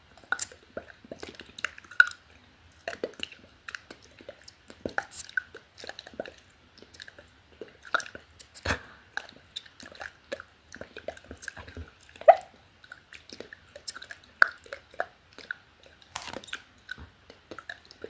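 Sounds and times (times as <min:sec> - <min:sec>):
wet mouth clicks and smacks: 0:00.2 - 0:02.2, 0:02.9 - 0:18.0.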